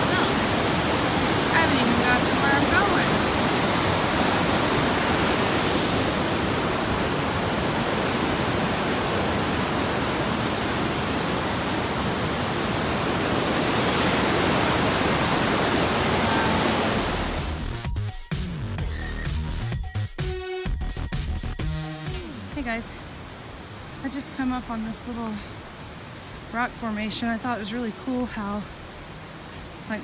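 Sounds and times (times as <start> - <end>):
fast stream rushing: 0.0 - 17.8, 22.0 - 30.0.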